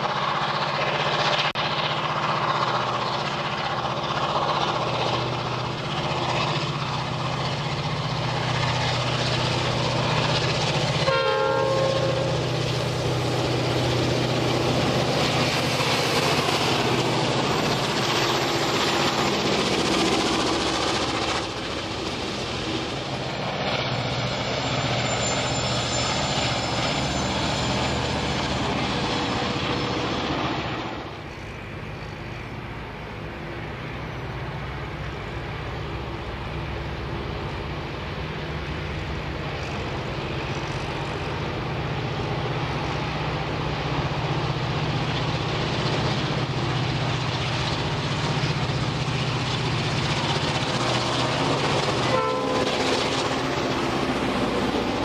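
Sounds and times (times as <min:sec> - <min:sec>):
diesel engine drone: 0:00.0 - 0:55.0
diesel locomotive train passing: 0:00.0 - 0:55.0.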